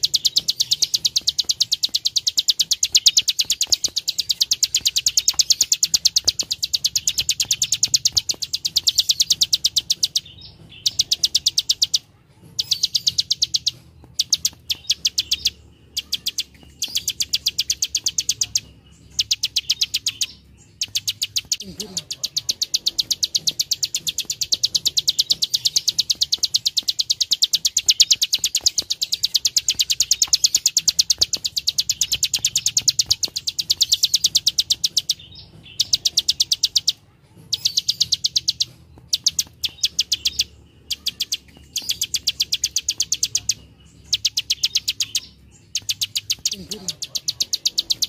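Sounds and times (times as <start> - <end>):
bird clicking call: 0.0 - 48.0.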